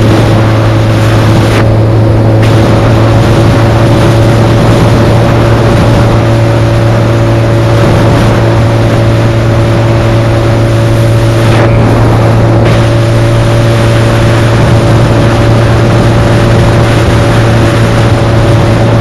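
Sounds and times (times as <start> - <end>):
motorcycle engine cruising: 0.0 - 19.0
wind buffeting microphone: 0.0 - 19.0.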